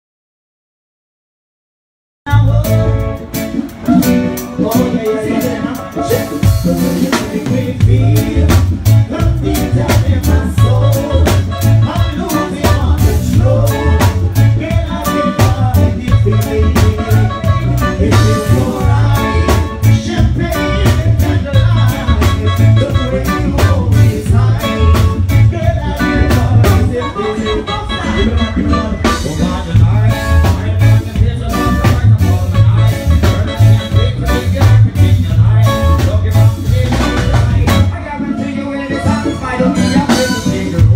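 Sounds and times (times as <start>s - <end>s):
pulsing bass line: 2.3s - 38.0s
drum kit beat: 2.3s - 38.3s, 39.3s - 40.9s
live band music over speakers: 2.3s - 40.9s
person singing: 2.3s - 40.9s.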